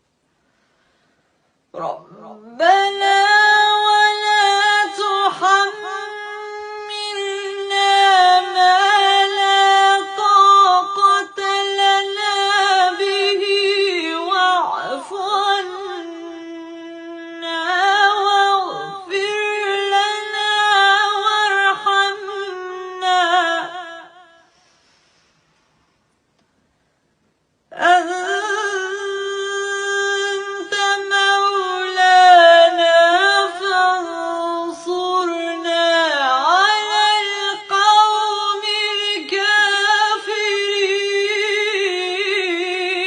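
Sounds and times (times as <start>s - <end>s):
woman chanting: 1.7s - 24.4s, 27.7s - 43.0s.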